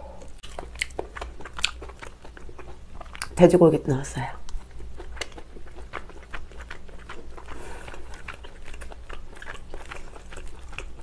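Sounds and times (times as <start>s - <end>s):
person chewing food: 0.0s - 3.4s, 4.4s - 11.0s.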